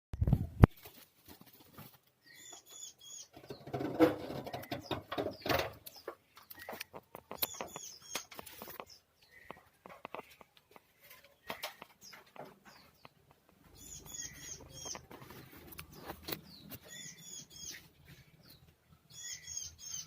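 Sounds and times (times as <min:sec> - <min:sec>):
rustling and clicking of handling: 0:00.2 - 0:02.7, 0:03.3 - 0:17.1
birds giving high chirps: 0:02.1 - 0:20.0.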